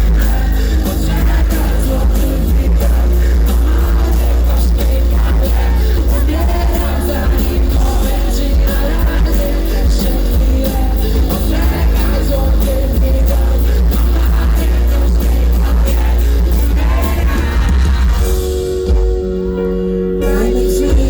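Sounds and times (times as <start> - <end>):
loud live concert music: 0.0 - 21.0.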